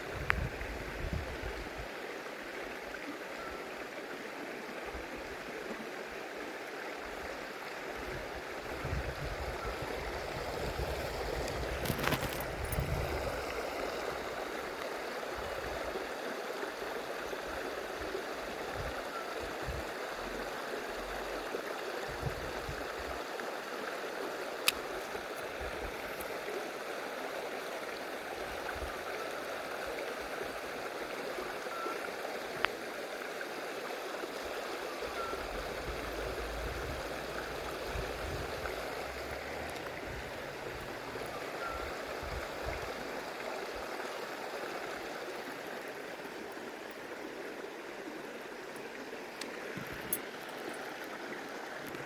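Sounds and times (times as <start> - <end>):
stream running over rocks: 0.0 - 52.0.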